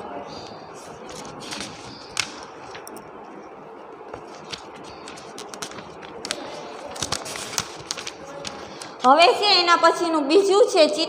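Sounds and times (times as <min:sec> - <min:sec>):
paper pages rustling: 0:00.4 - 0:09.3.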